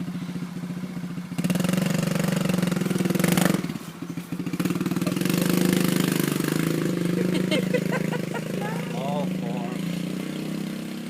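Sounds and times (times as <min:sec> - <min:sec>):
dirt bike engine pulsing: 0:01.3 - 0:11.0.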